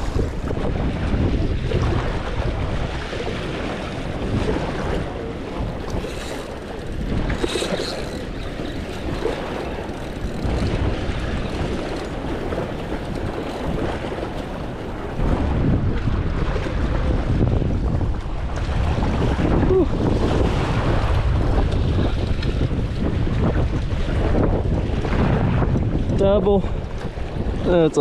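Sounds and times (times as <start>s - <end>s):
rushing water: 0.0s - 28.0s
wind buffeting microphone: 0.0s - 28.0s.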